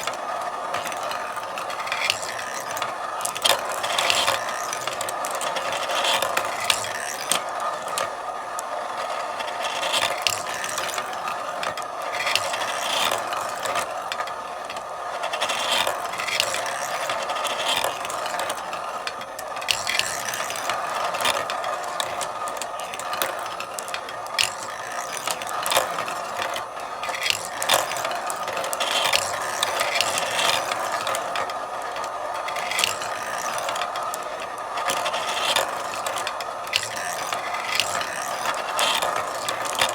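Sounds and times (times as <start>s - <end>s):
marbles clicking and clacking: 0.0s - 39.9s
marbles rolling on a track: 0.0s - 39.9s.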